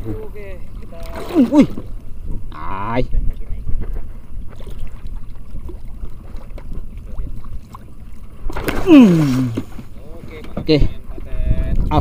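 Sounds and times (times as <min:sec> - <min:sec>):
water sloshing against boat hull: 0:00.0 - 0:12.0.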